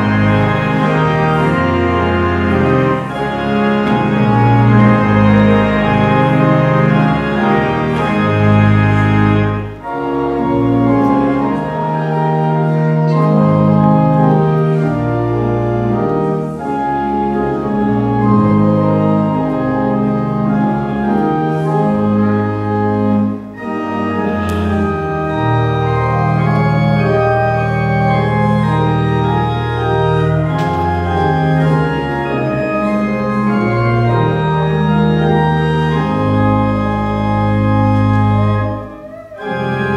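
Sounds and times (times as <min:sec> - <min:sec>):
church organ playing chords: 0:00.0 - 0:39.9.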